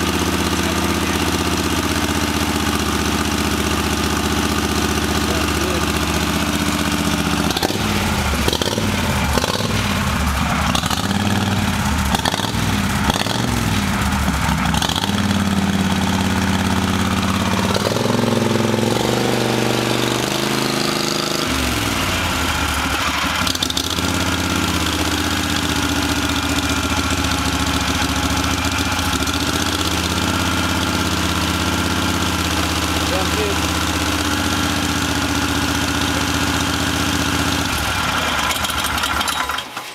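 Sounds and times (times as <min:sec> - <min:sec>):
golf cart engine idling and revving: 0:00.0 - 0:39.9.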